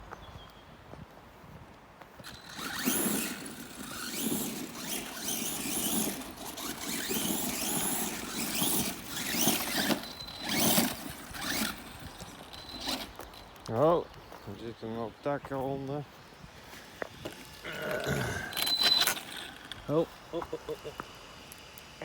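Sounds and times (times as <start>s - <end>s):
rc car motor whining: 2.2s - 14.6s, 15.5s - 22.0s
tyres scraping on rough ground: 2.2s - 22.0s.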